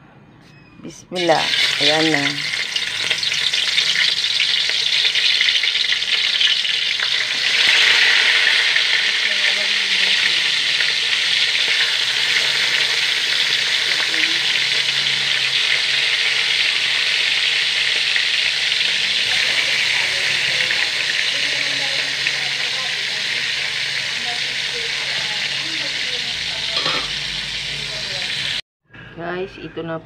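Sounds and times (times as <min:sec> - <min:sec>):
hot oil sizzling with frying fish: 0:01.2 - 0:28.6.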